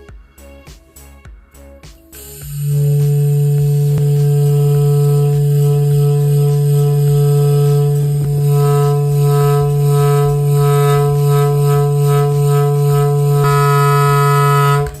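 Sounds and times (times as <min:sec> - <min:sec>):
horn blowing low blare: 0:02.5 - 0:15.0.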